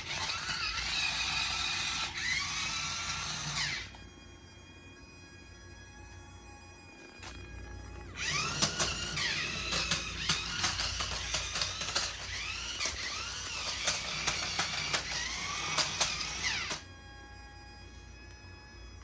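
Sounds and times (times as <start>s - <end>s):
toy car electric motors whining: 0.0s - 4.1s, 7.0s - 19.0s.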